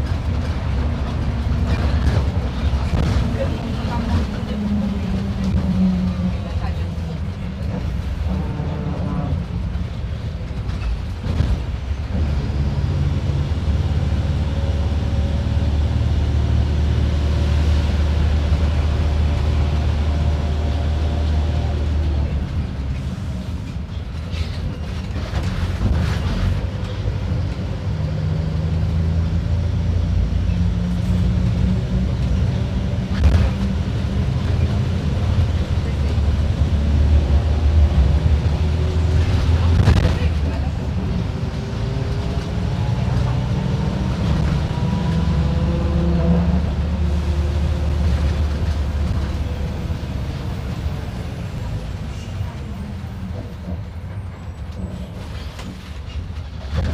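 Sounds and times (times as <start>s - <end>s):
diesel bus engine droning: 0.0s - 56.9s.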